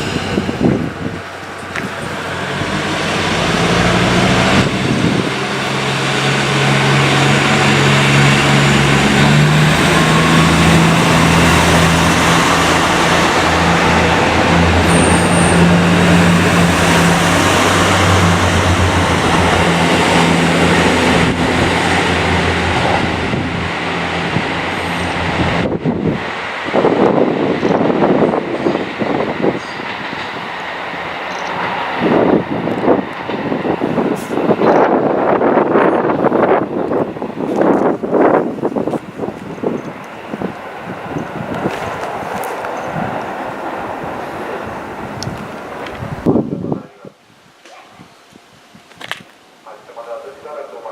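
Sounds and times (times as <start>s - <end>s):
diesel engine drone: 0.0s - 46.3s
broad rushing noise: 0.0s - 47.1s.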